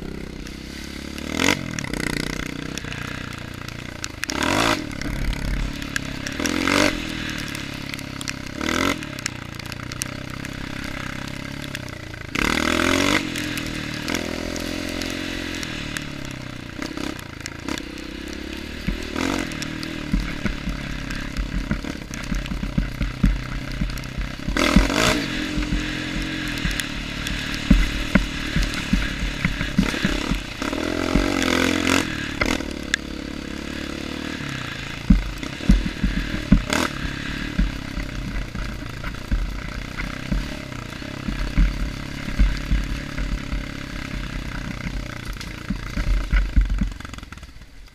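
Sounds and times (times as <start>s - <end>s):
dirt bike engine revving: 0.0s - 47.7s
bike clattering over rough trail: 0.0s - 47.9s.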